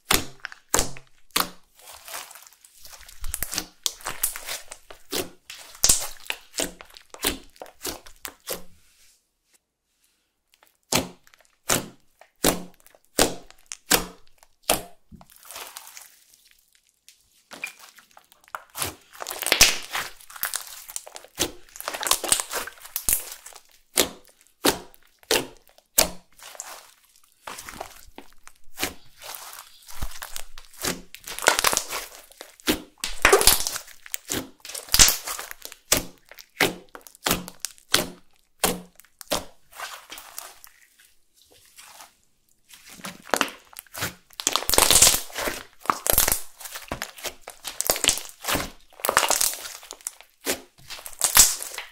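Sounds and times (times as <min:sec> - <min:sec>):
slime popping and crackling: 0:00.0 - 0:08.7, 0:10.6 - 0:40.9, 0:42.6 - 0:51.9.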